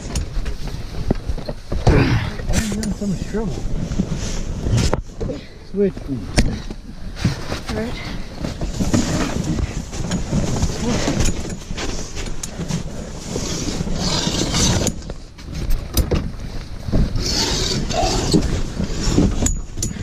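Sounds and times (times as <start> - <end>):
fabric rustling: 2.5 - 19.4.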